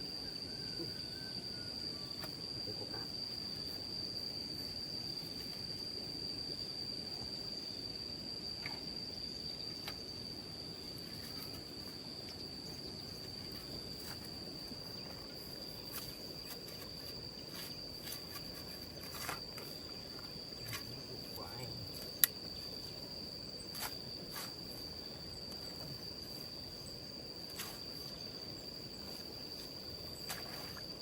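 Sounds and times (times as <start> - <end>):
insects droning high-pitched: 0.0 - 31.0.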